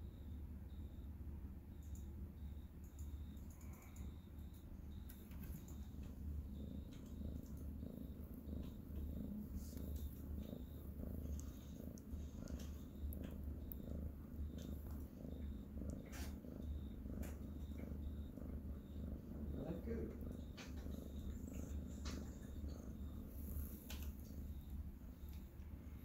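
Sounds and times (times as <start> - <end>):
cat purring: 2.0 - 26.0.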